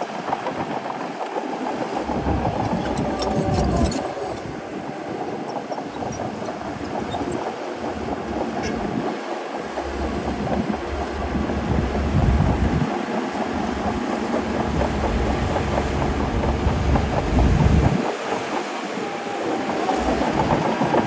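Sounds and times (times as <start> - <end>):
steel tracks clattering: 0.1 - 21.0
bulldozer diesel engine rumbling: 2.0 - 21.0.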